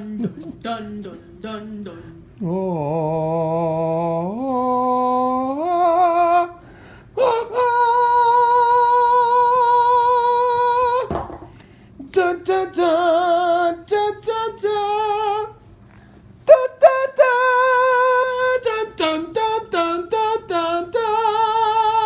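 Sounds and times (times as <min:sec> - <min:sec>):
person singing a cappella: 0:00.0 - 0:11.3, 0:12.0 - 0:15.6, 0:16.4 - 0:22.0.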